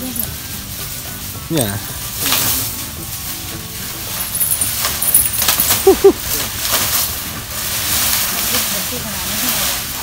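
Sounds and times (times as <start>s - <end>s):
sand rustling and scraping: 0.4s - 10.0s.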